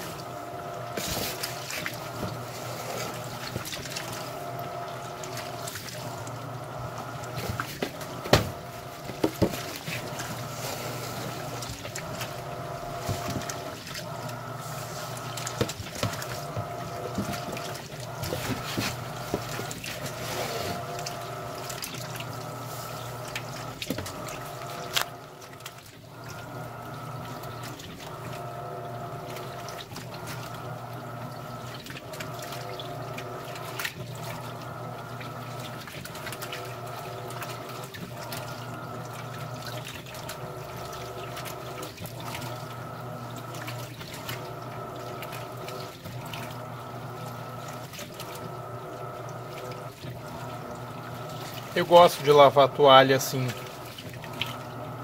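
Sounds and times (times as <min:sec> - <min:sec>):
washing machine motor hum: 0:00.0 - 0:55.0
water sloshing: 0:00.0 - 0:55.0.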